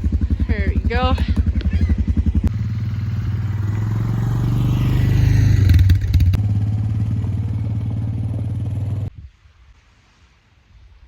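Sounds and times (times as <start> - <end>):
quad bike engine running: 0.0 - 9.1.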